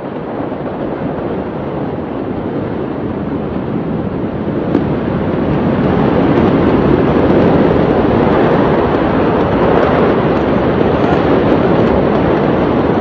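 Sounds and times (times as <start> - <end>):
faint crackles: 0.0 - 13.0
loud rushing noise: 0.0 - 13.0.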